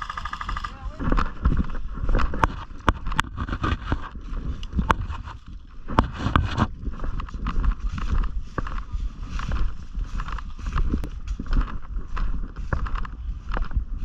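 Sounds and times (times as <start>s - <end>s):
rustling through brush: 0.1s - 14.0s.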